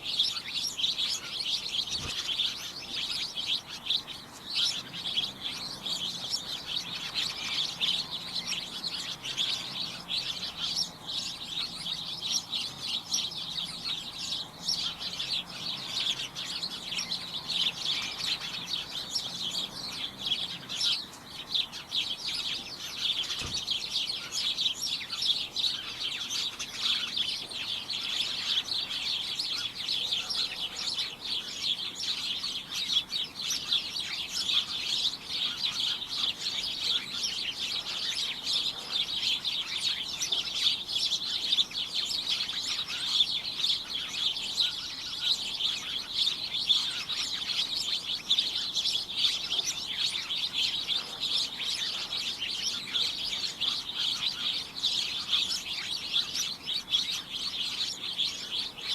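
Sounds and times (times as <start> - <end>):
flock of small birds chirping: 0.0 - 58.9.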